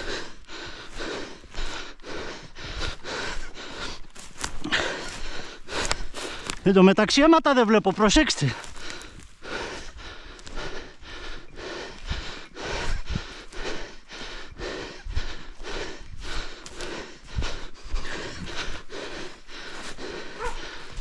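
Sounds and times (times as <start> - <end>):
person breathing hard: 0.0 - 6.6, 8.4 - 21.0.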